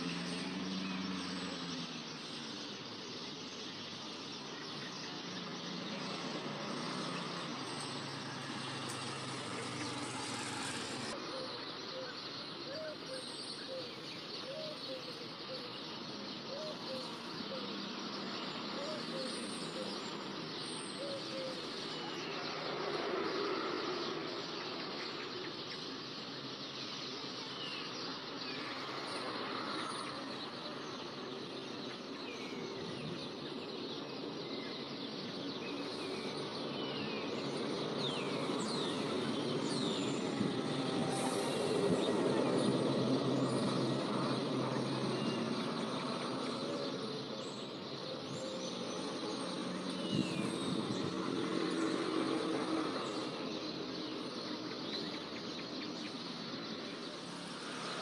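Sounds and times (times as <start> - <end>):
outdoor background noise: 0.0 - 58.0
small birds chirping: 0.0 - 58.0.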